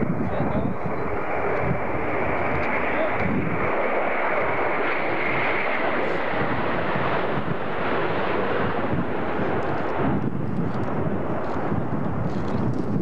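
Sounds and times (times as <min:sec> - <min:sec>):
high jet whine: 0:00.0 - 0:13.0
loud jet noise: 0:00.0 - 0:13.0.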